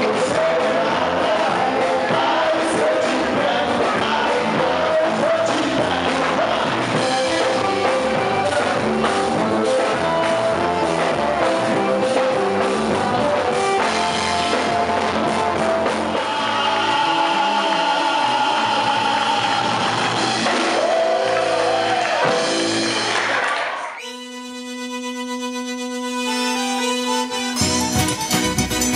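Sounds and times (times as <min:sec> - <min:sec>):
band playing with singing: 0:00.0 - 0:23.2.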